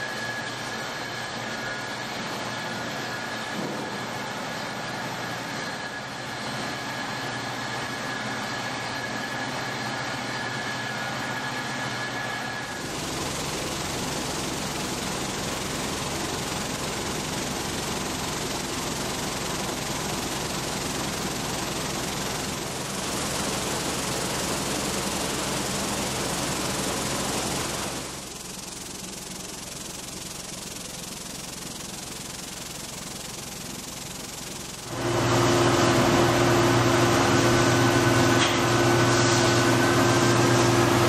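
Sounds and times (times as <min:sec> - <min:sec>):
steady machine hum: 0:00.0 - 0:41.0.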